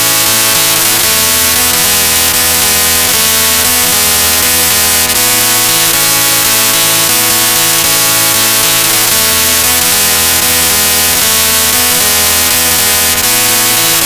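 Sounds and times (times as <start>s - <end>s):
distorted electronic music: 0.0s - 14.0s.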